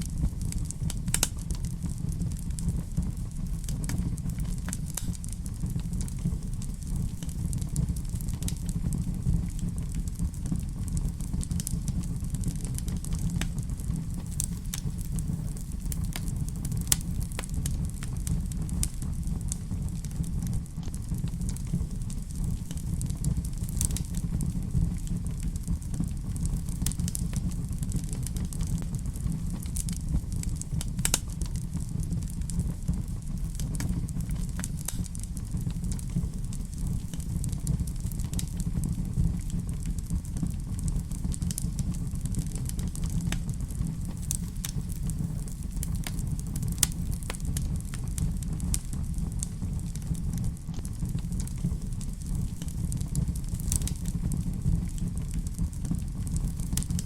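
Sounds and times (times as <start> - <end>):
fireplace fire crackling: 0.0 - 57.0
low rumble: 0.0 - 57.0.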